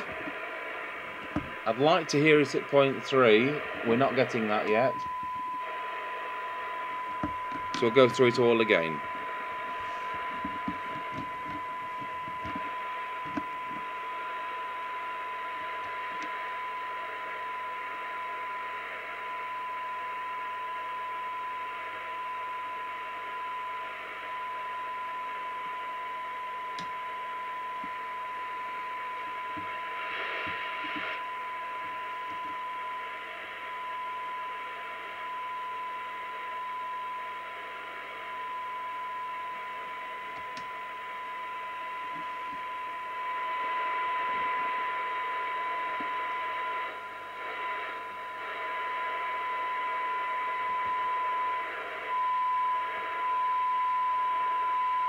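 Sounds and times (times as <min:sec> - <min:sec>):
radio noise hiss: 0:00.0 - 0:55.0
steady test tone from loudspeaker: 0:00.0 - 0:55.0.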